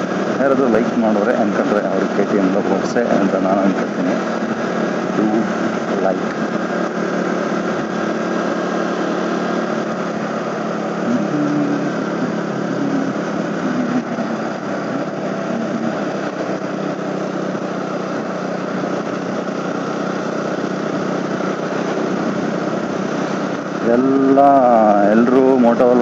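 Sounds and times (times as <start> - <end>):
motorcycle engine running: 0.0 - 26.0
wind and road noise: 0.0 - 26.0
wavering low tone: 4.1 - 26.0.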